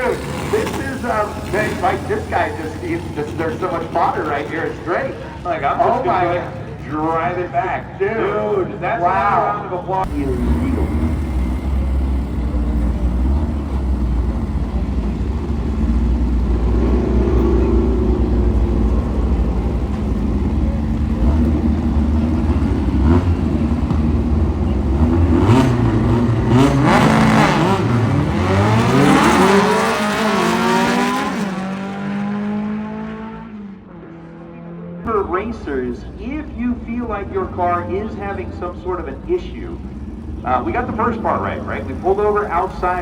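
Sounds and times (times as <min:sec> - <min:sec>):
car revving and accelerating: 0:00.0 - 0:06.6, 0:10.0 - 0:35.8, 0:36.8 - 0:43.0
drag car engines running: 0:00.0 - 0:43.0.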